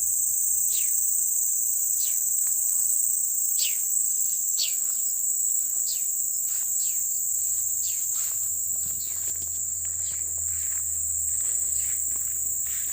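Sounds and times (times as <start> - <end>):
high-pitched insect trill: 0.0 - 12.9.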